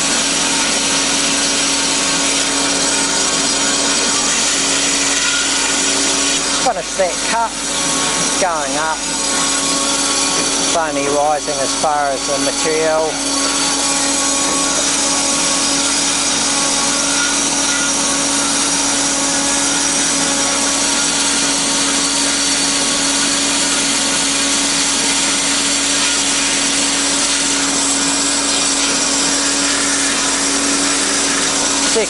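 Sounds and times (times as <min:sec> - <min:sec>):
bandsaw cutting wood: 0:00.0 - 0:32.0.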